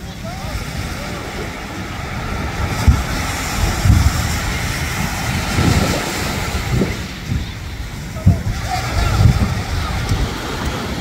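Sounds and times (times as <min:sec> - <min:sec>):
ocean surf washing in: 0:00.0 - 0:11.0
wind buffeting microphone: 0:00.0 - 0:11.0.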